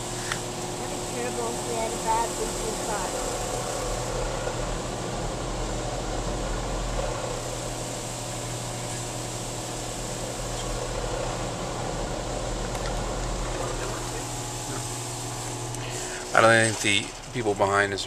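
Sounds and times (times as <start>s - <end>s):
air blower hum: 0.0s - 18.0s
low drone: 0.0s - 18.0s.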